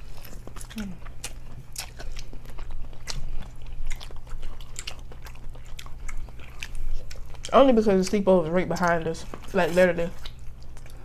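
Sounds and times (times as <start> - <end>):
chewing and smacking: 0.0 - 11.0
low steady hum: 0.0 - 11.0.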